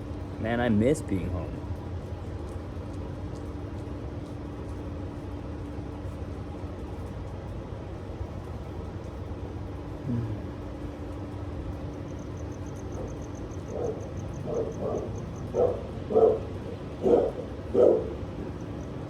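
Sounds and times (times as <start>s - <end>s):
distant traffic rumble: 0.0s - 19.0s
steady hum: 0.0s - 19.0s.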